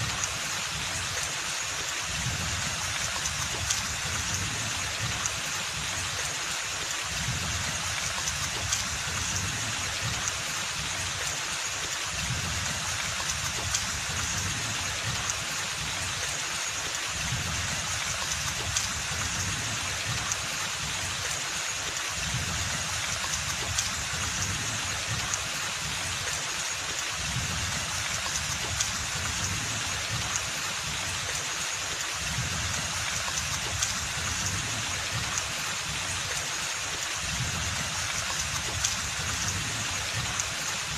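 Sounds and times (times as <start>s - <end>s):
rain on foliage: 0.0s - 40.9s.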